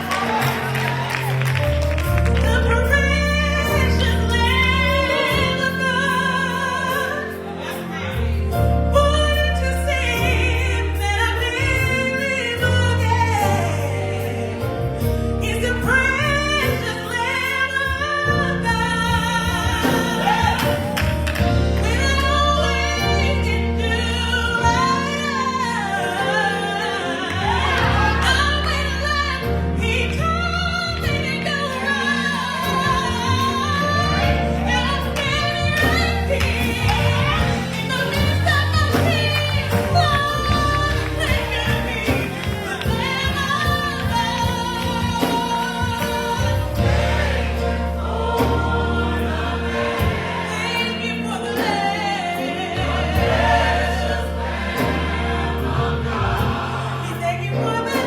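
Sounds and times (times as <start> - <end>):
bass line held notes: 0.0 - 58.0
gospel choir singing: 0.0 - 58.0.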